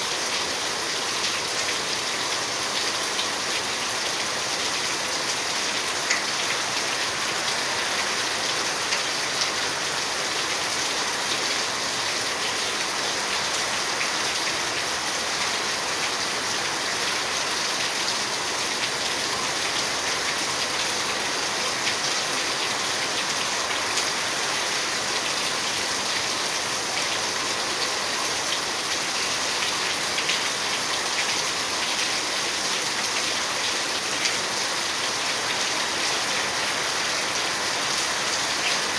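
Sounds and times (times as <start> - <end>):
steady rain hiss: 0.0 - 38.9
raindrops ticking on surfaces: 0.1 - 38.9.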